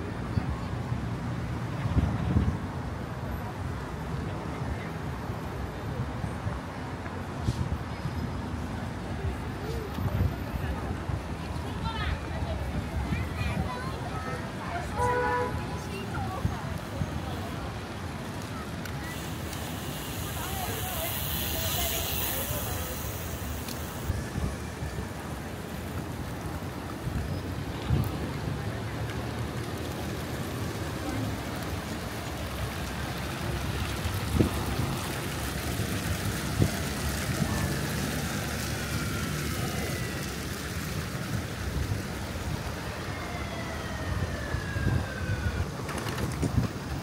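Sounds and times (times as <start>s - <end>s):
street traffic: 0.0s - 47.0s.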